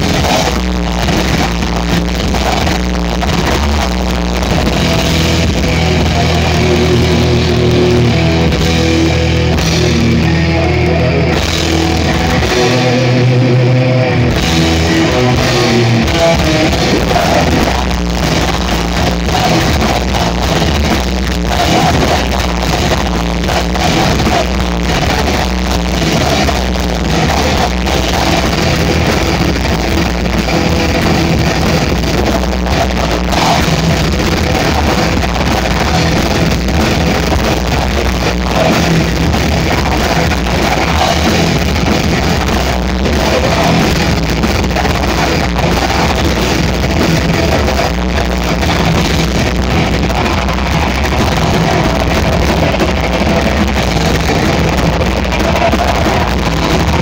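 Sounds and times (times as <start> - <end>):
live metal band playing: 0.0 - 57.0.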